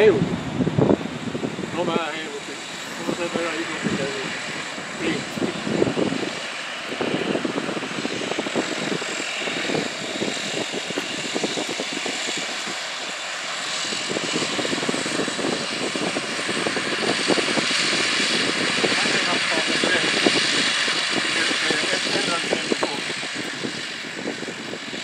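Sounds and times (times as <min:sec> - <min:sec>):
turbine whine: 0:00.0 - 0:25.0
turboprop propeller drone: 0:00.0 - 0:25.0.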